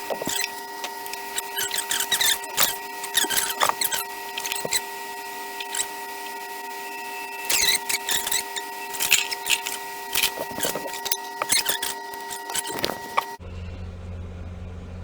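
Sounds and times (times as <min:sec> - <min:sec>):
clicking and scraping: 0:00.0 - 0:13.4
hot-air station whine: 0:00.0 - 0:14.4.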